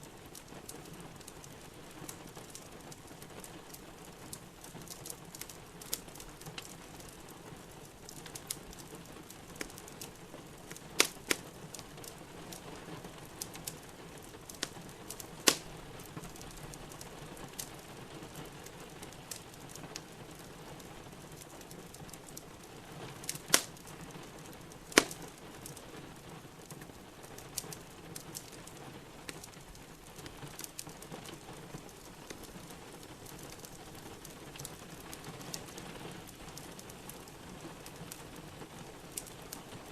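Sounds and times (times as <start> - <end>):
rain hiss: 0.0 - 39.9
wood fire crackling: 0.0 - 39.9
fire popping: 0.1 - 39.9.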